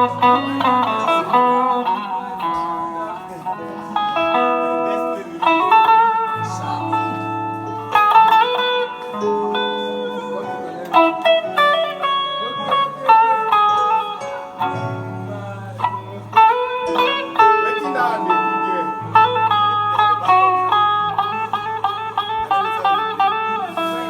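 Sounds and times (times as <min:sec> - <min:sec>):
guitar lead with bent notes: 0:00.0 - 0:24.0
sustained guitar chords: 0:00.0 - 0:24.0.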